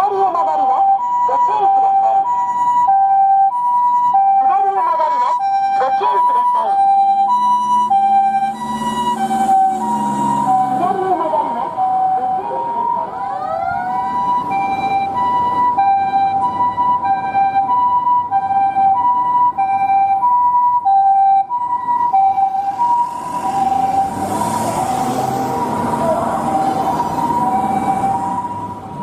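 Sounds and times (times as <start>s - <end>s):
two-tone ambulance siren: 0.0s - 29.0s.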